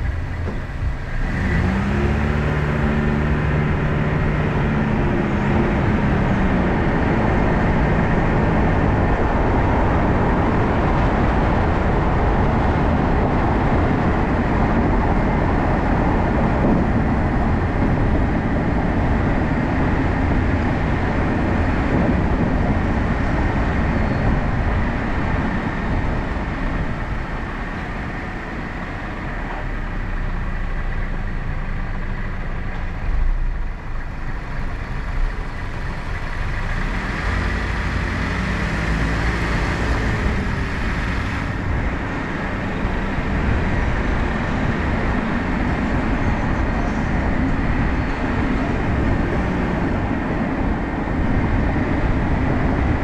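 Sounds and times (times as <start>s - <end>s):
car engine: 0.0s - 53.0s
road and tyre rumble: 0.0s - 53.0s.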